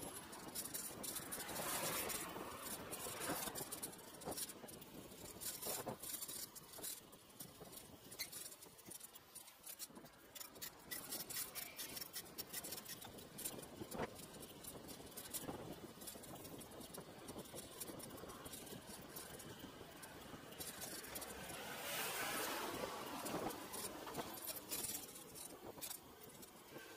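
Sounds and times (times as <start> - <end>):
bicycle clicks and rattles: 0.0 - 26.9.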